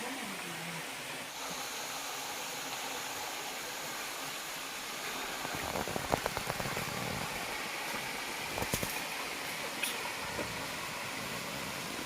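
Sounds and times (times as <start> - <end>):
steady hissing rush: 0.5 - 12.0.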